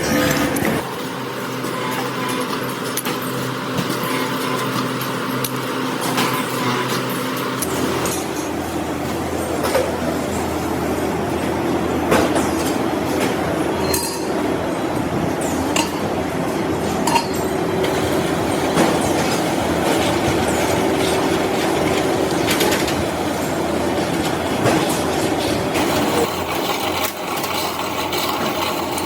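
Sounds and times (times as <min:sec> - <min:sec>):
machinery humming: 0:00.0 - 0:29.0.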